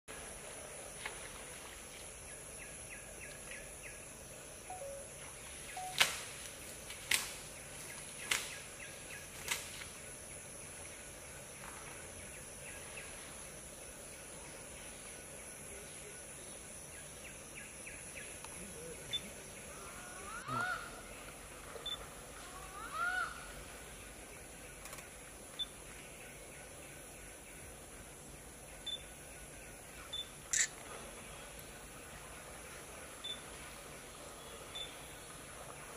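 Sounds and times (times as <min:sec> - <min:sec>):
steady high hiss: 0:00.1 - 0:35.9.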